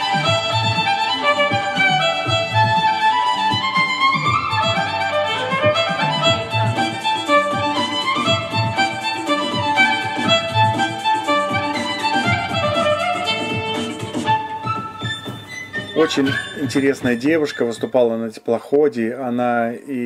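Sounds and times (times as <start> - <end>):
violin playing quick melody: 0.0 - 17.9
backing track with steady beat: 0.0 - 18.1.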